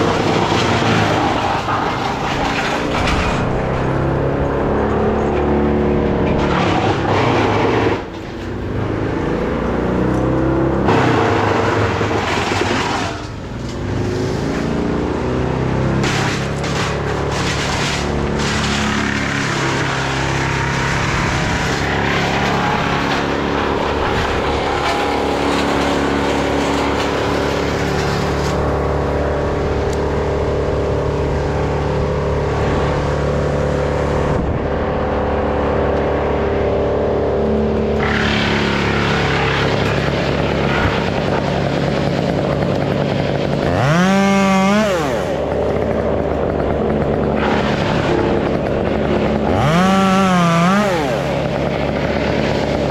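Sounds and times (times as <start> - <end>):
chainsaw running and revving: 0.0 - 52.9.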